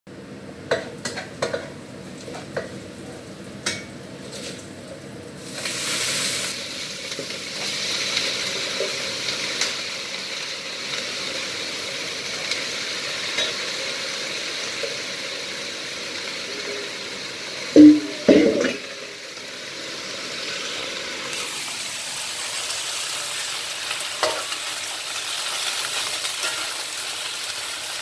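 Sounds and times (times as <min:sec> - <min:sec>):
vegetables sizzling in hot oil: 0:00.2 - 0:28.0.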